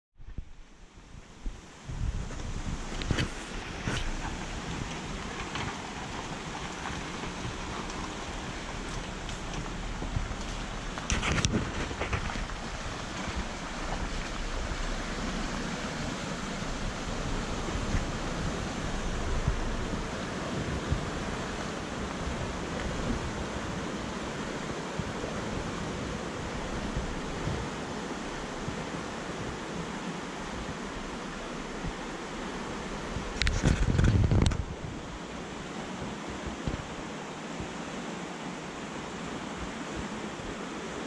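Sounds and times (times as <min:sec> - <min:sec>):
wind buffeting microphone: 0:00.2 - 0:37.7
fast-flowing creek rushing: 0:02.1 - 0:41.0.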